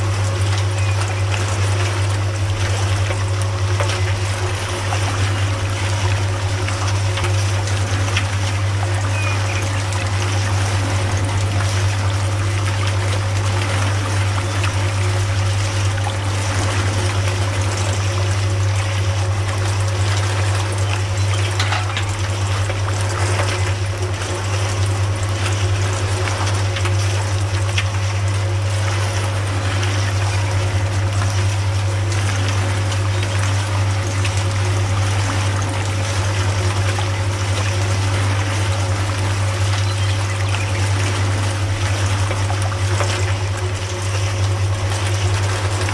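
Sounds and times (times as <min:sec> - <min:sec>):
juice press humming: 0:00.0 - 0:45.9
juice trickling into metal pail: 0:00.0 - 0:45.9.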